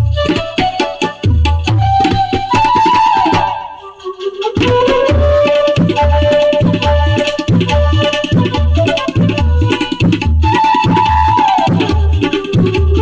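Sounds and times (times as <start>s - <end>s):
flute: 0.0s - 13.0s
tabla drumming: 0.0s - 13.0s.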